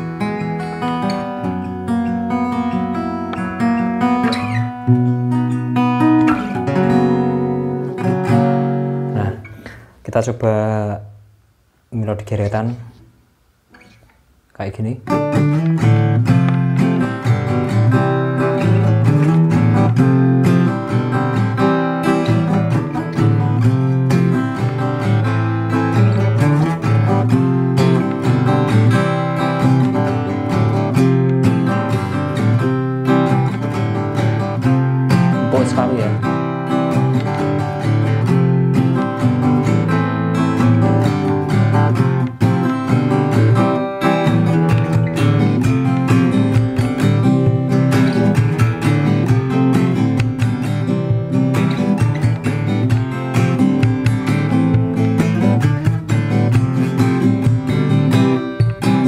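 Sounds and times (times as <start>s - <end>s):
acoustic guitar strumming: 0.0s - 10.1s, 15.0s - 59.0s.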